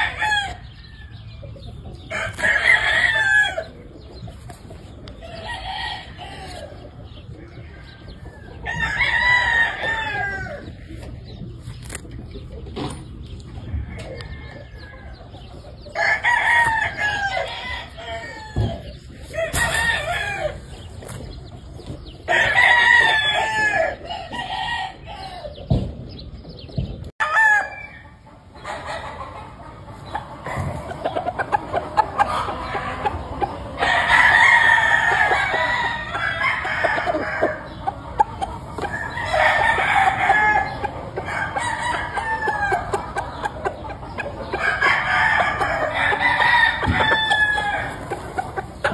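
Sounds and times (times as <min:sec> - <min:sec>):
roosters crowing: 0:00.0 - 0:11.6, 0:12.2 - 0:26.2, 0:26.8 - 0:48.9
hens clucking: 0:00.0 - 0:48.9.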